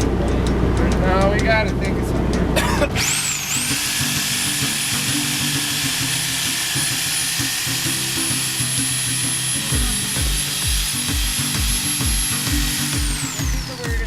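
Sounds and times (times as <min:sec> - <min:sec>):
background music: 0:00.0 - 0:14.0
high-pitched motor whine: 0:00.0 - 0:14.0.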